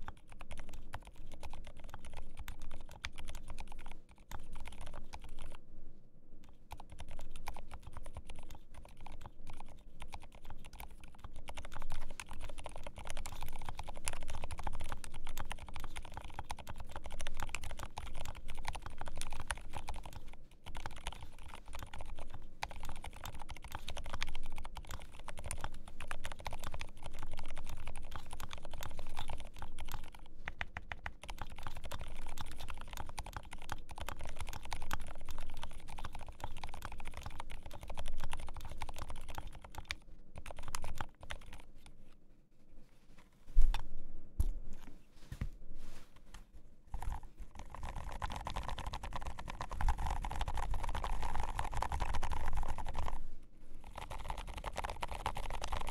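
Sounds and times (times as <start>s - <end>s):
fast typing on mechanical keyboard: 0.0s - 5.6s, 6.6s - 41.7s, 46.9s - 53.2s, 53.8s - 55.9s.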